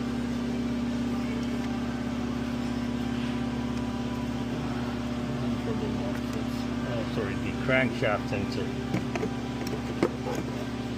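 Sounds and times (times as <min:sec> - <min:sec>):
steady machine hum: 0:00.0 - 0:10.9.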